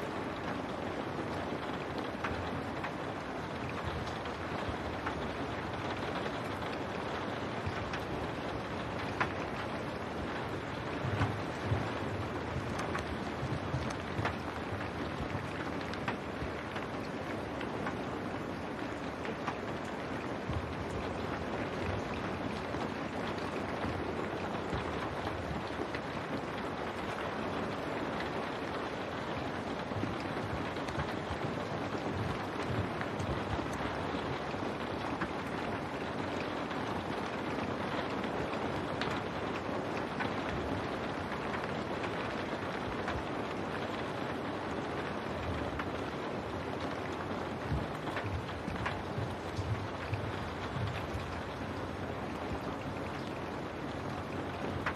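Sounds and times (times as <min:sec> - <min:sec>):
rain on window glass: 0:00.0 - 0:54.9.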